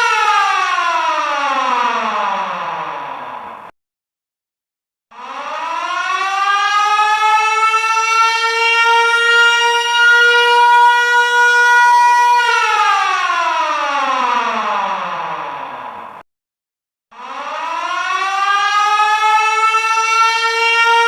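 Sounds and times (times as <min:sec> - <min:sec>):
air-raid siren wailing: 0:00.0 - 0:03.7, 0:05.1 - 0:16.2, 0:17.1 - 0:21.0.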